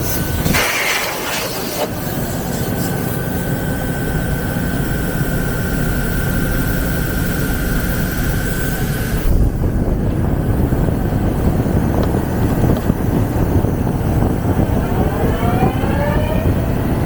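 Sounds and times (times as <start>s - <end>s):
high whine of metal cutting: 0.0s - 17.0s
lathe machine drone: 0.0s - 17.0s.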